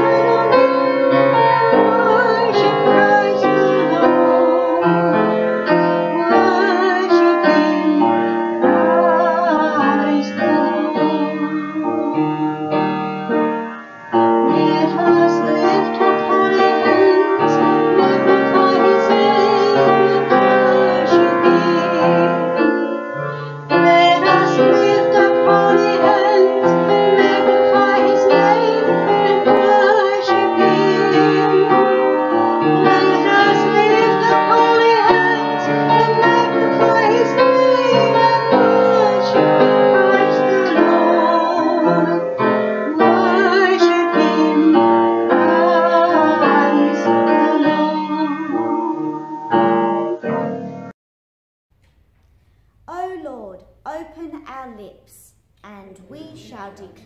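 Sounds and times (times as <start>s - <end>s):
women singing a hymn: 0.0s - 12.5s, 14.4s - 22.9s, 23.7s - 49.3s
piano accompaniment: 0.0s - 50.9s.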